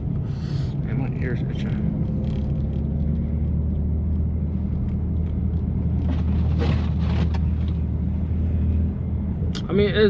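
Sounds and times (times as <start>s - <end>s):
car engine droning: 0.0s - 10.0s
tyre noise on snowy road: 0.2s - 8.8s.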